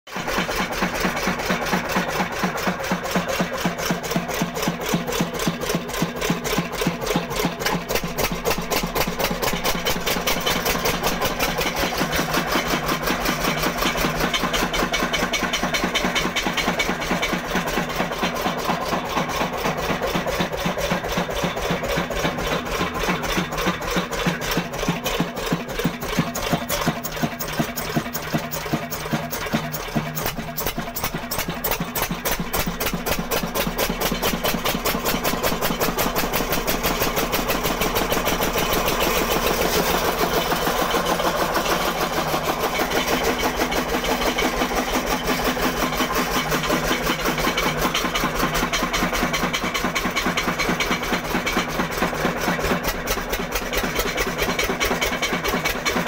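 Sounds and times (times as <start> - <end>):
stationary engine running: 0.1 - 56.0.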